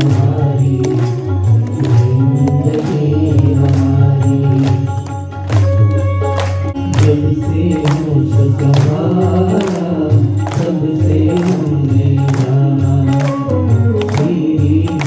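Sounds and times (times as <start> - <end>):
devotional singing: 0.0 - 5.6, 6.7 - 15.0
instrumental accompaniment: 0.0 - 15.0
percussion strike with jingles: 0.0 - 15.0.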